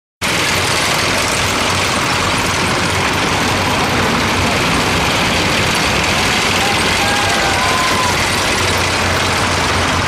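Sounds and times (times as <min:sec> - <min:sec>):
heavy diesel engine hum: 0:00.2 - 0:10.0
track noise: 0:00.2 - 0:10.0.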